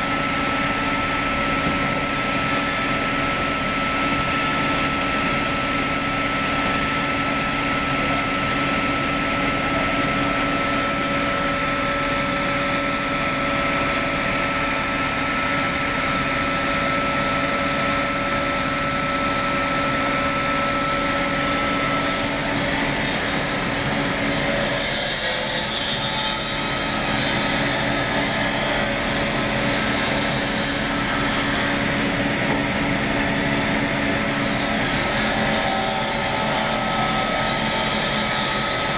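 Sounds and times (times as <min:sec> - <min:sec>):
circular saw whining: 0:00.0 - 0:38.9.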